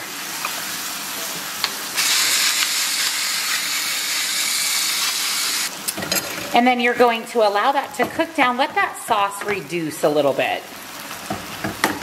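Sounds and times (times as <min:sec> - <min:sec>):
meat and peppers sizzling: 0:00.0 - 0:12.0.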